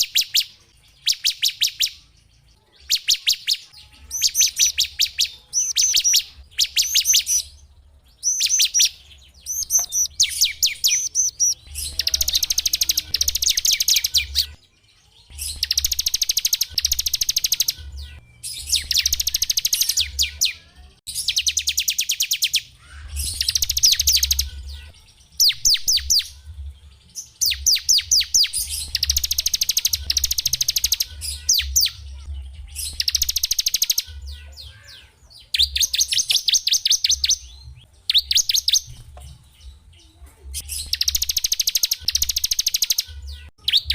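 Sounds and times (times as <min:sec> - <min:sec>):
songbird trilling: 0:02.8 - 0:14.6, 0:15.3 - 0:26.4, 0:27.4 - 0:38.9, 0:40.6 - 0:43.9.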